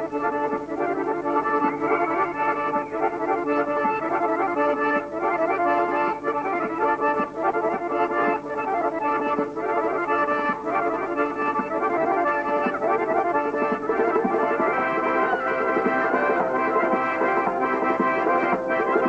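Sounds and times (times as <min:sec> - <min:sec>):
accordion folk dance tune: 0:00.0 - 0:19.0.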